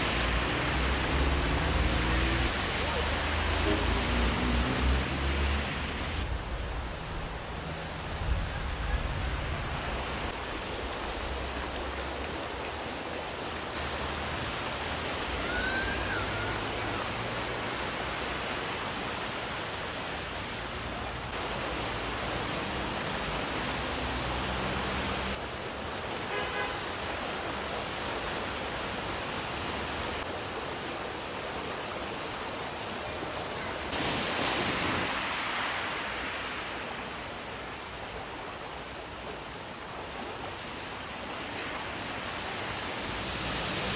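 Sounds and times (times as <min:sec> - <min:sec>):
floodwater rushing: 0:00.0 - 0:43.9.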